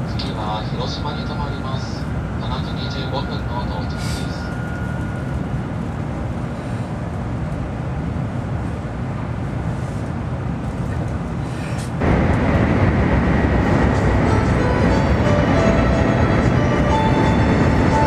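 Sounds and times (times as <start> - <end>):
train rumble and rushing: 0.0 - 18.0.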